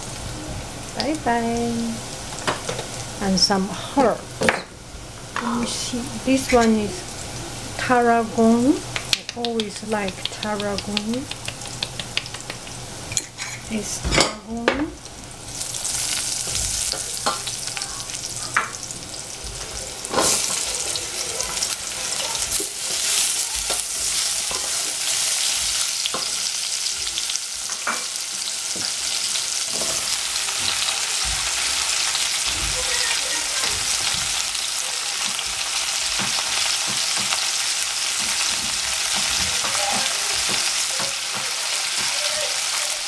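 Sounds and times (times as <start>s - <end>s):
mushrooms sizzling in hot oil: 0.0s - 43.0s.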